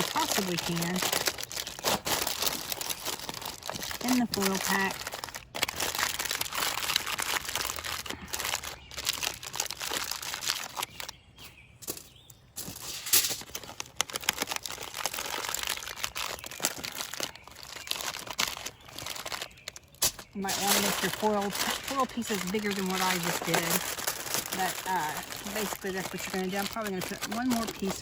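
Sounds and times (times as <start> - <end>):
aluminium foil crinkling: 0.0 - 28.0.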